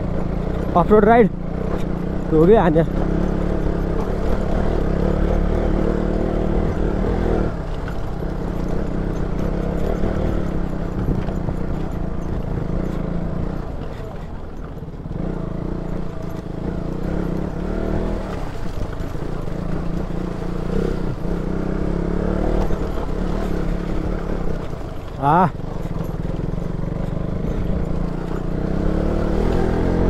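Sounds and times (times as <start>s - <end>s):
bike knocking and rattling on stones: 0.0s - 30.0s
motorcycle engine: 0.0s - 30.0s.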